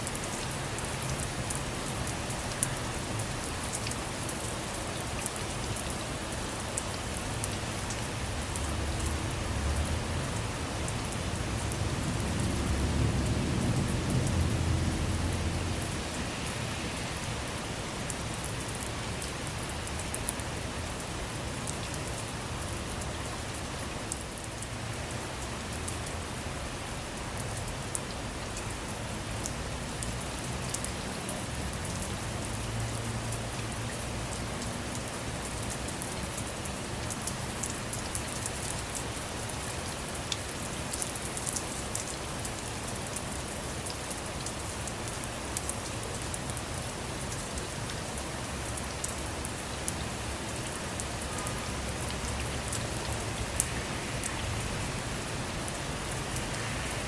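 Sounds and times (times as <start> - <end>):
rain falling on a car: 0.0 - 57.0.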